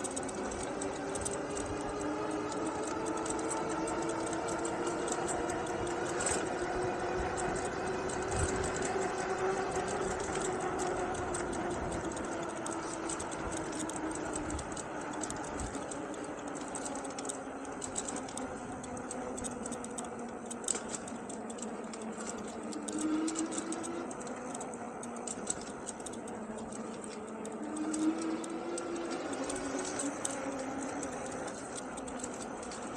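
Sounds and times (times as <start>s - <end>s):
electric hub motor whining: 0.0s - 32.9s
rattling clicks: 0.0s - 32.9s
tyre and wind noise: 0.0s - 32.9s.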